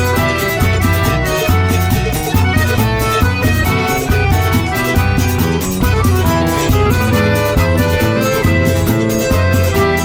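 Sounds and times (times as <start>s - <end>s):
accordion music: 0.0s - 10.0s
steady bass rhythm: 0.0s - 10.0s.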